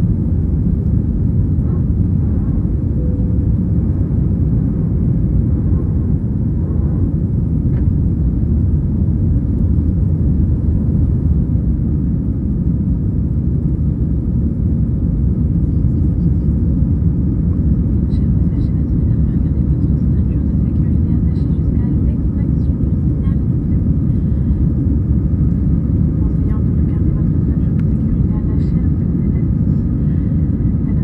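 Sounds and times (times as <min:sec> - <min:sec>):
aircraft cabin engine rumble: 0:00.0 - 0:31.0.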